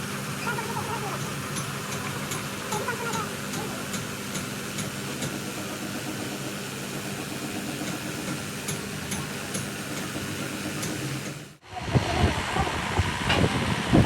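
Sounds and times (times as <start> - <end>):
workshop machine humming: 0.0 - 14.0.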